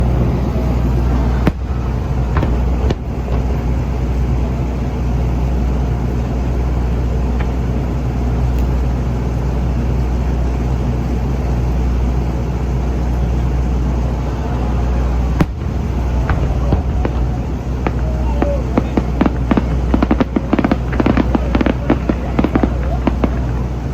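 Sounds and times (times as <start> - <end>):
fireworks bangs: 0.0 - 11.5, 12.1 - 23.9
low outdoor rumble: 0.0 - 23.9.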